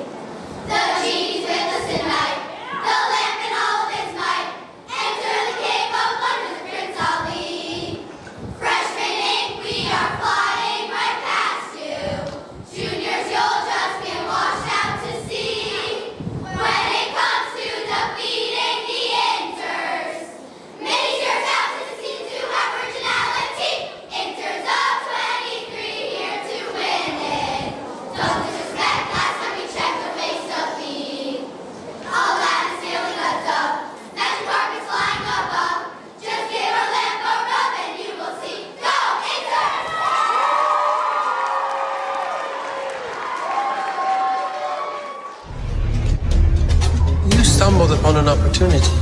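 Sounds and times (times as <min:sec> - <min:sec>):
girls singing a cheer in chorus: 0:00.0 - 0:40.2.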